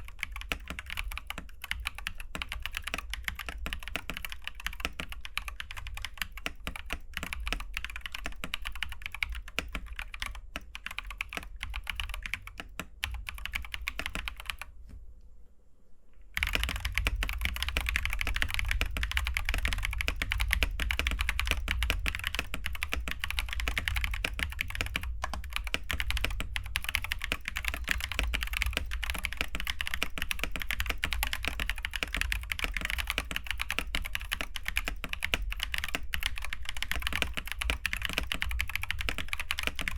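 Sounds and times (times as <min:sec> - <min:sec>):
mechanical keyboard typing: 0:00.0 - 0:14.7, 0:16.4 - 0:39.9.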